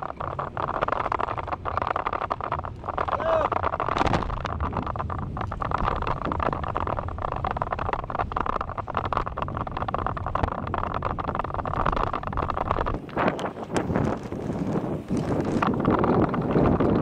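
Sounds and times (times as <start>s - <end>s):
bicycle rattles and clicks: 0.0s - 17.0s
wind rushing over microphone: 0.0s - 17.0s.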